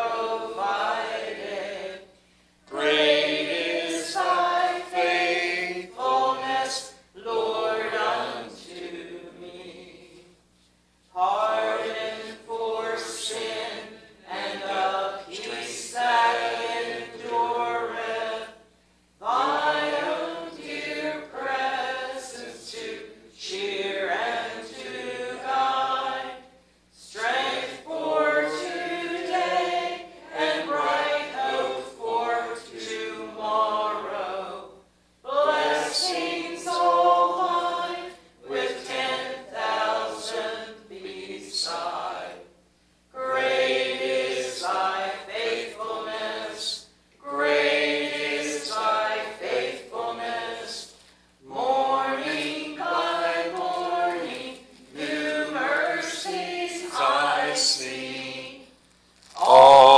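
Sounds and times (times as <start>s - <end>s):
group singing a hymn: 0.0s - 10.5s, 11.1s - 58.8s, 59.4s - 59.9s.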